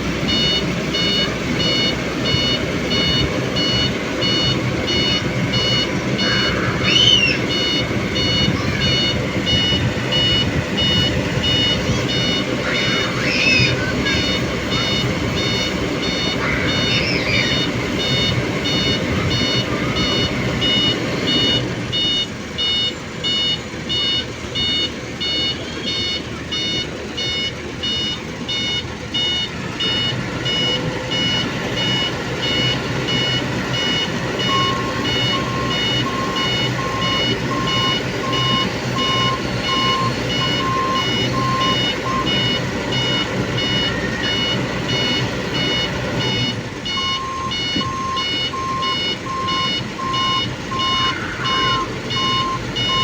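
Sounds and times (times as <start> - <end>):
diesel engine: 0.0 - 53.0
travel alarm beeping: 0.0 - 53.0.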